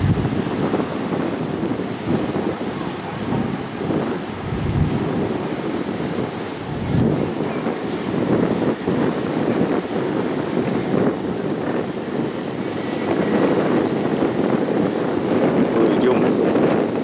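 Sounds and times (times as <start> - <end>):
speedboat engine passing: 0.0 - 17.0
water rushing off hull: 0.0 - 17.0
wind buffeting microphone: 0.0 - 17.0.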